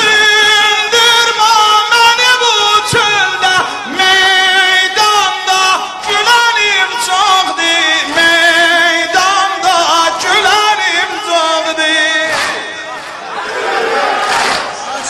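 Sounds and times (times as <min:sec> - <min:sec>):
man singing a mourning lament: 0:00.0 - 0:13.0.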